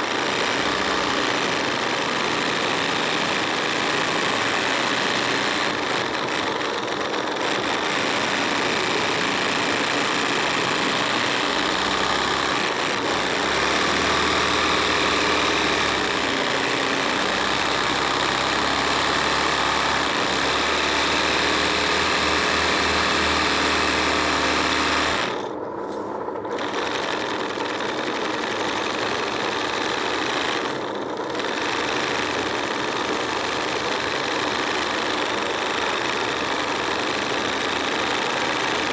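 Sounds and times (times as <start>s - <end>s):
sewing machine running: 0.0s - 38.9s.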